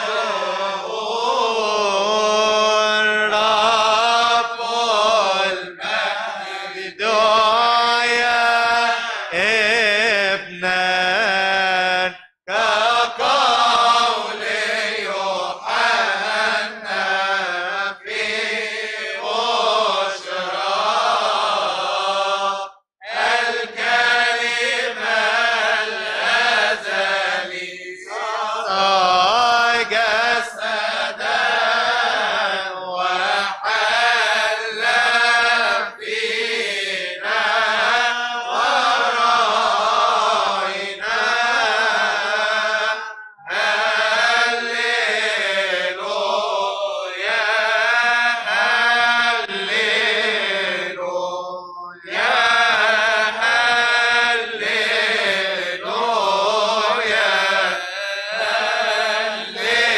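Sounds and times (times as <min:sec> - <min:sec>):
man chanting a hymn: 0:00.0 - 0:20.4, 0:23.2 - 0:59.9.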